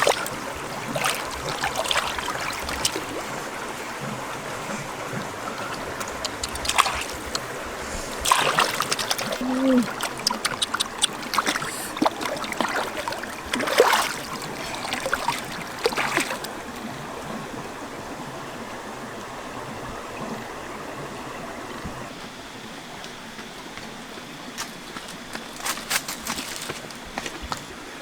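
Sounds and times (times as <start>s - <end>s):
stream water running: 0.0s - 28.0s
water splashing and sloshing: 0.0s - 28.0s.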